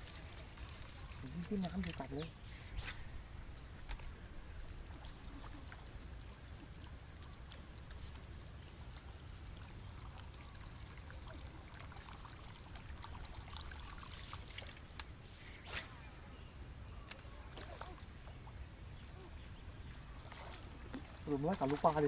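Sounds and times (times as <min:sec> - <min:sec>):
water trickling and lapping: 0:00.0 - 0:22.0.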